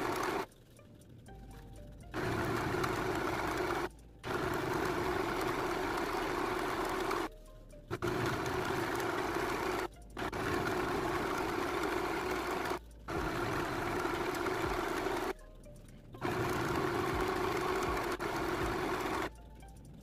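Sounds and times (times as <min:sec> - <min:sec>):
electric sewing machine stitching: 0:00.0 - 0:00.5, 0:02.1 - 0:07.3, 0:07.9 - 0:15.4, 0:16.2 - 0:19.4.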